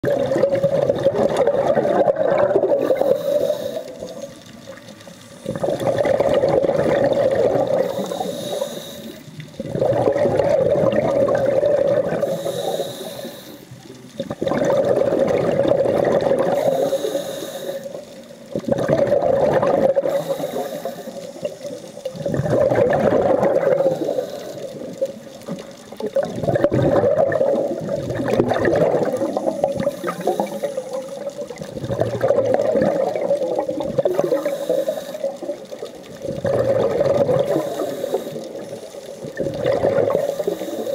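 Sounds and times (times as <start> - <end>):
underwater exhaled bubbles: 0.0 - 40.9.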